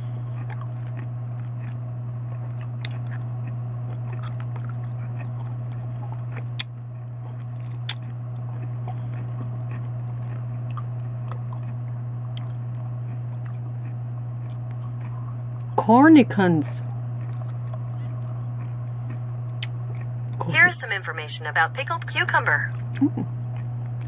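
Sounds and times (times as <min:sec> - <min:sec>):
person chewing crunchy pickle: 0:00.0 - 0:15.8, 0:16.8 - 0:20.5, 0:22.7 - 0:24.0
steady low hum: 0:00.0 - 0:24.0.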